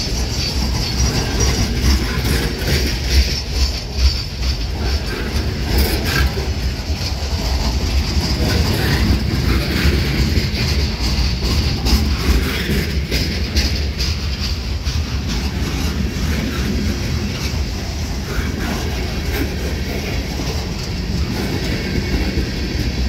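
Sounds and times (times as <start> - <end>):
train cars rumbling past: 0.0 - 23.0
wheels clicking over rail joints: 0.0 - 23.0
wheels hissing on rails: 0.0 - 23.0.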